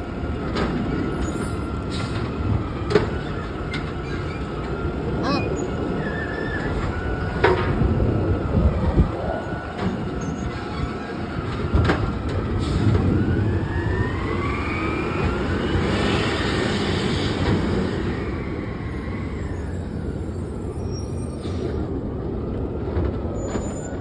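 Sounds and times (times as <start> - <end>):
garbage truck diesel engine: 0.0 - 22.5.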